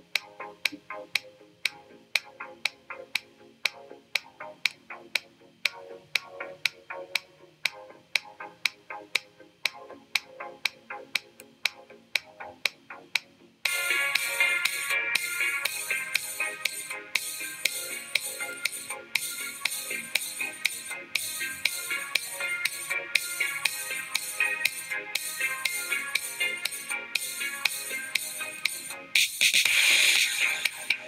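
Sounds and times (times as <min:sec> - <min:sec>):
music with ticking beat: 0:00.0 - 0:31.0.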